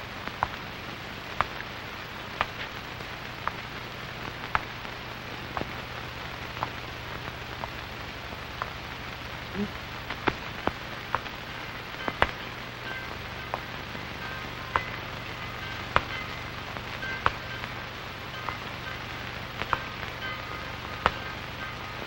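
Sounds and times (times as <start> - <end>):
film soundtrack hiss: 0.0 - 22.0
low hum: 0.0 - 22.0
sharp clicks and pops: 0.2 - 15.0, 15.6 - 22.0.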